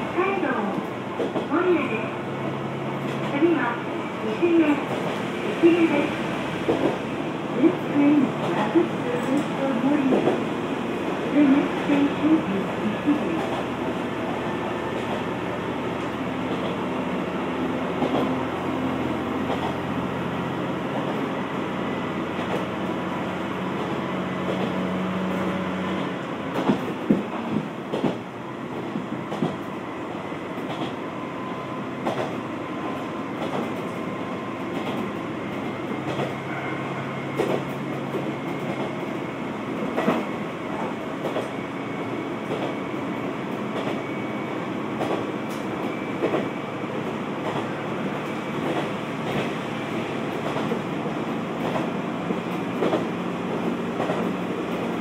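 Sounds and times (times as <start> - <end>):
diesel railcar engine humming: 0.0 - 55.0.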